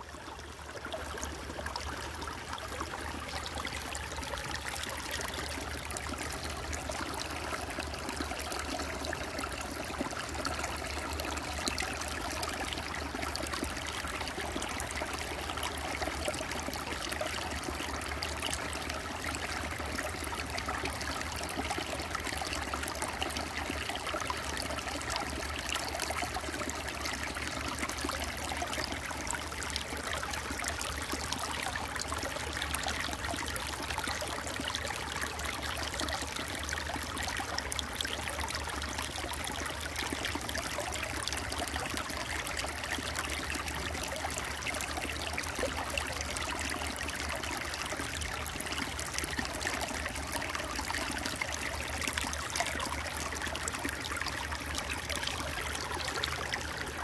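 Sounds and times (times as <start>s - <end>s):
creek babbling over rocks: 0.0s - 57.0s.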